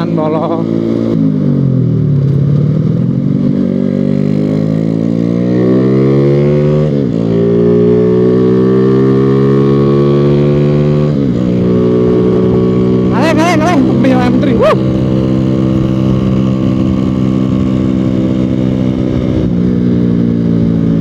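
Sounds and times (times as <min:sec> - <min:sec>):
motorcycle engine under throttle: 0:00.0 - 0:21.0.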